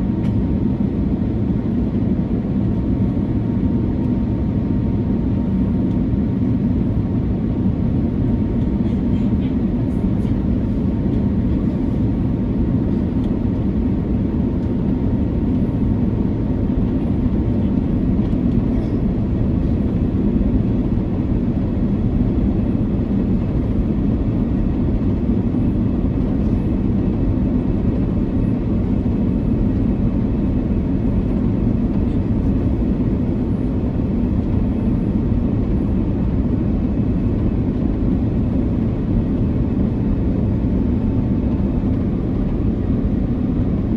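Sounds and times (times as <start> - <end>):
airplane cabin rumble: 0.0 - 43.9.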